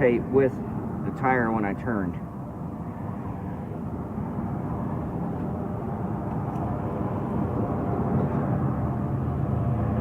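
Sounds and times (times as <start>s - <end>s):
steady engine drone: 0.0s - 10.0s.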